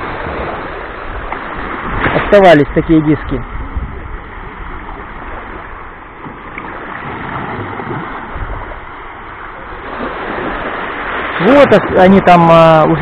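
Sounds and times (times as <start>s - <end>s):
small waves washing ashore: 0.0s - 13.0s.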